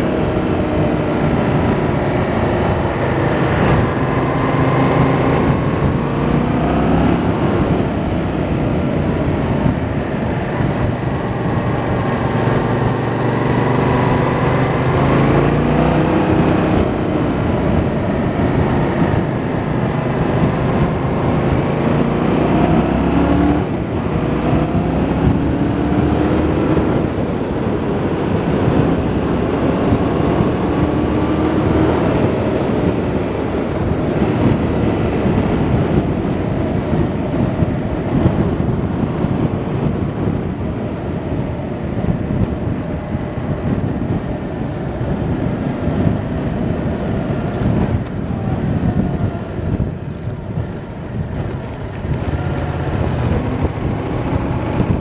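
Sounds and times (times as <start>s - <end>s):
motorcycle engine revving: 0.0s - 55.0s
wind rushing over microphone: 0.0s - 55.0s.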